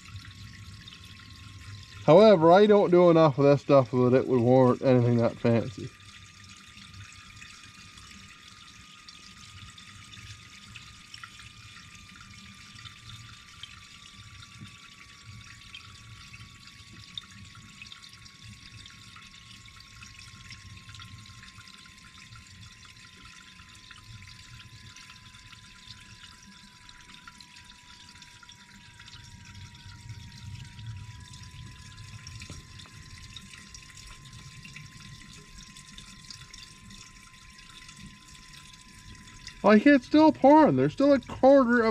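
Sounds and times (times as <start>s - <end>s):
fuel trickling into tank: 0.0s - 41.9s.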